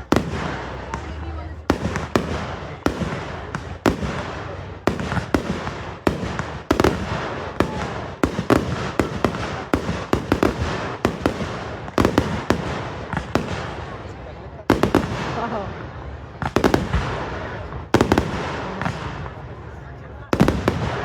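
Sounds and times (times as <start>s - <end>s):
firework shells booming: 0.0s - 14.1s, 16.4s - 19.5s, 20.4s - 21.0s
echoing firework crackle: 0.0s - 21.0s.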